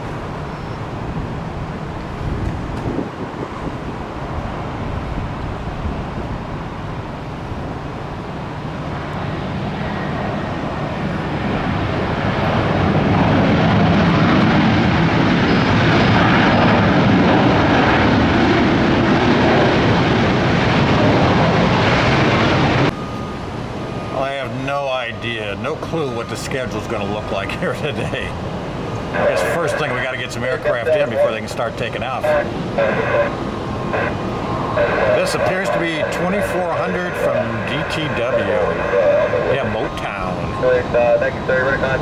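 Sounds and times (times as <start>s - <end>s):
faint jet whine: 0.0s - 42.0s
jet engines roaring: 0.0s - 42.0s.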